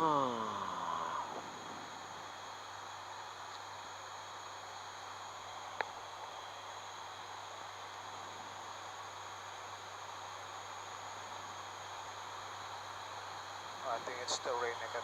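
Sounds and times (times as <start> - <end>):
turboprop cockpit noise: 0.0 - 15.0.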